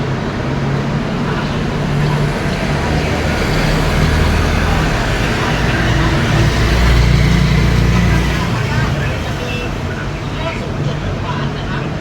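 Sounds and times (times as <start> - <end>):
road traffic noise: 0.0 - 12.0
vehicle engine hum: 0.0 - 12.0.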